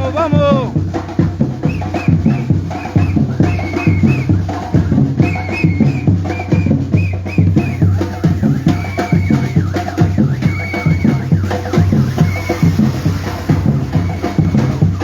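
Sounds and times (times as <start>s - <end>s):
bass drum beats: 0.0s - 15.0s
rapid drum and wood-block strokes: 0.0s - 15.0s.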